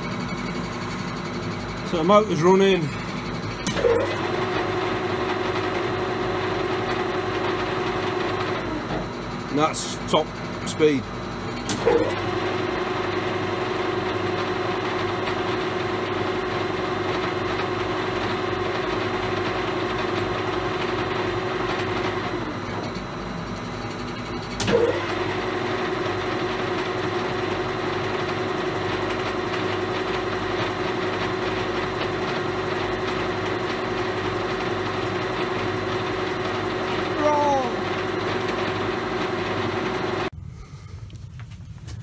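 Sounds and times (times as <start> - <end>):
lathe humming with a whine: 0.0 - 40.3.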